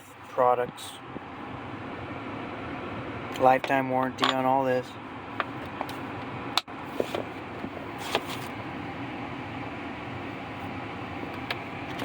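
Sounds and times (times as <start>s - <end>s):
background rumble and hiss: 0.0s - 12.0s.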